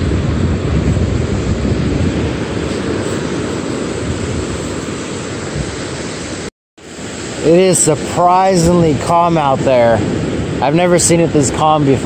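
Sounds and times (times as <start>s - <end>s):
breaking surf: 0.0s - 12.0s
wind on microphone: 0.0s - 12.0s.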